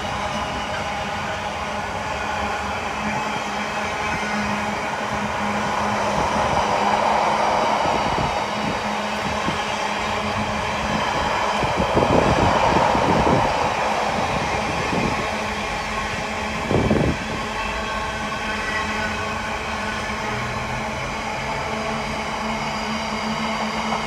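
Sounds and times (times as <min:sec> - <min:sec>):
rumble of train wheels on rail: 0:00.0 - 0:24.0.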